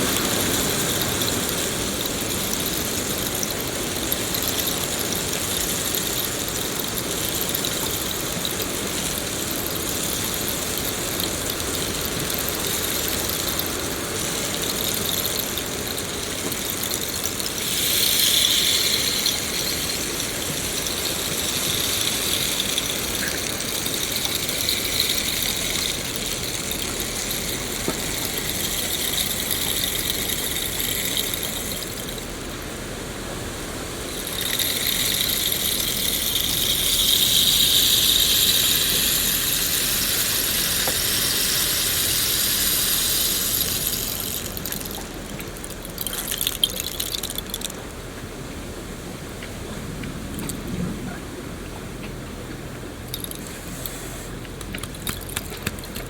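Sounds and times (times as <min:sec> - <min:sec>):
high-pitched droning hum: 0:00.0 - 0:56.0.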